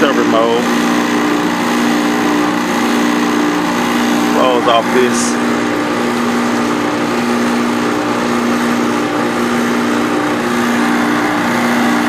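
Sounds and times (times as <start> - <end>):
recovery machine compressor hum: 0.0 - 12.0.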